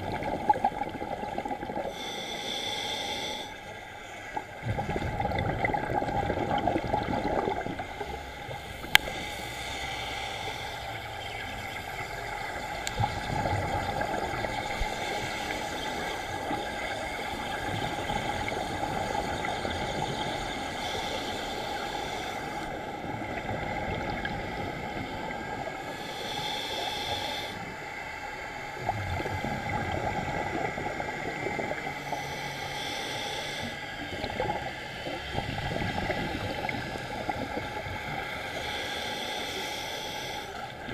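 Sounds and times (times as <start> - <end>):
muffled underwater noise: 0.0 - 40.9
regulator breaths and bubbles: 0.0 - 40.9.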